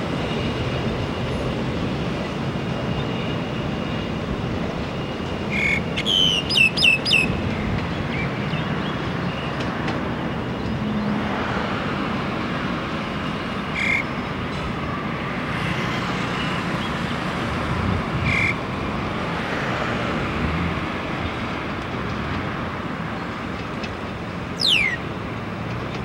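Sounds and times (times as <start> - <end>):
distant locomotive rumble: 0.0 - 26.0
road traffic: 0.0 - 26.0.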